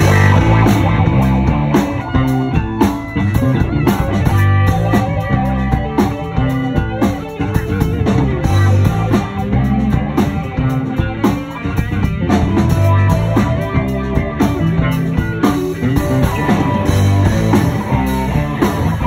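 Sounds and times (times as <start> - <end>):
drum kit steady beat: 0.0 - 19.0
electric guitar: 0.0 - 19.0
stepping bass line: 0.0 - 19.0.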